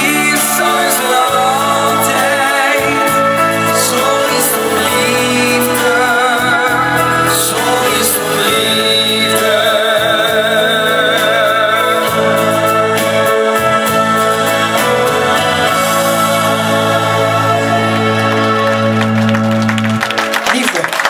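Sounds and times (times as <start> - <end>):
young man singing into microphone: 0.0 - 18.9
instrumental accompaniment: 0.0 - 21.0.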